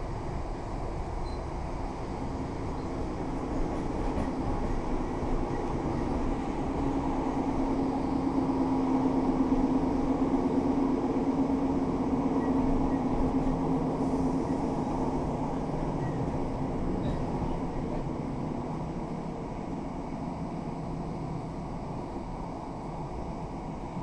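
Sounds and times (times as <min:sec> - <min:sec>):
train humming drone: 0:00.0 - 0:24.0
train wheels rumbling on track: 0:00.0 - 0:24.0.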